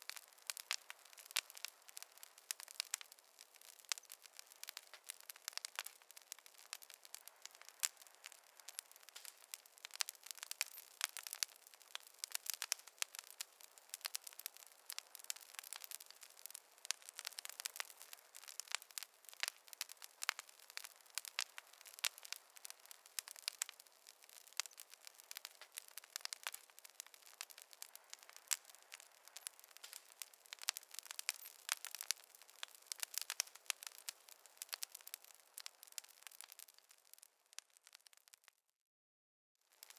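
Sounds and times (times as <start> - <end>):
faint hiss: 0.0 - 37.3
wood fire crackling: 0.0 - 38.6, 39.6 - 39.9.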